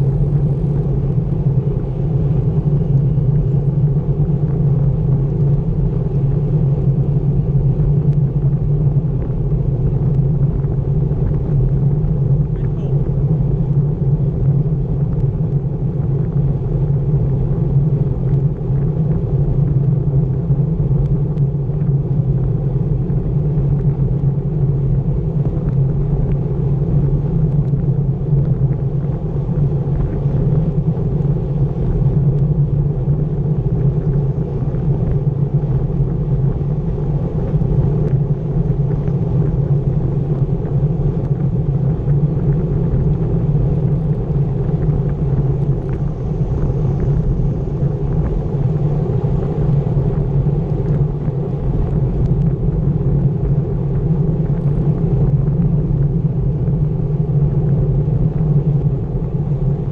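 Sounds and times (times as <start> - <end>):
road vibration rumbling: 0.0 - 59.9
wind buffeting microphone: 0.0 - 59.9.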